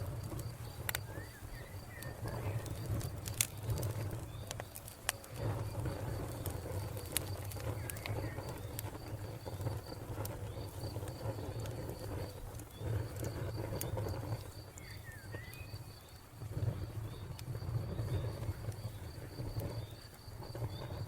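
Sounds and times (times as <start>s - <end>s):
cricket chirping: 0.0s - 21.0s
fire crackling and popping: 0.0s - 21.0s.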